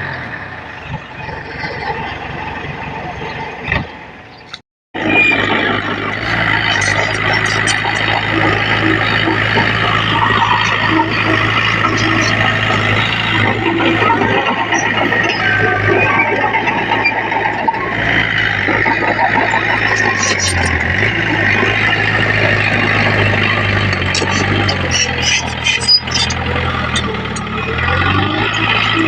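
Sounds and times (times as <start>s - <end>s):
heavy diesel engines running: 0.0s - 29.0s.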